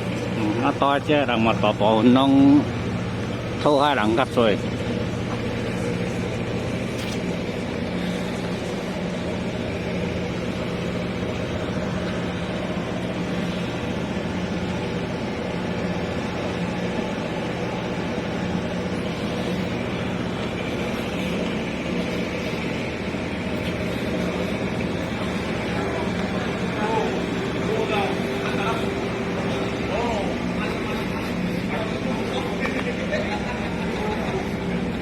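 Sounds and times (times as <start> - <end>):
motor vehicle engine hum: 0.0 - 35.0
road noise: 0.0 - 35.0.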